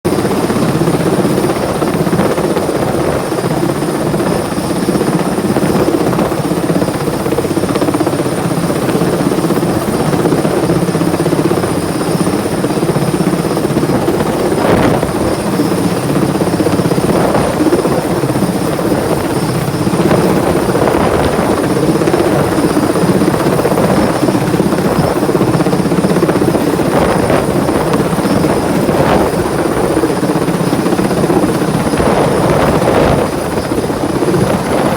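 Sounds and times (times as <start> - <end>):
helicopter rotor and engine drone: 0.1 - 34.9.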